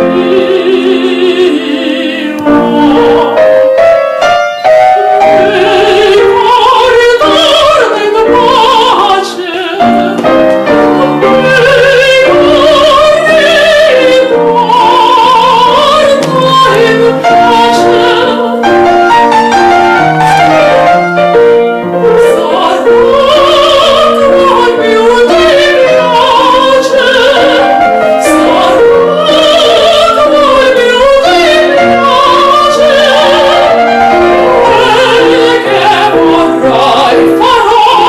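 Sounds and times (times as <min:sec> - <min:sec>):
operatic singing: 0:00.0 - 0:38.0
piano accompaniment: 0:00.0 - 0:38.0.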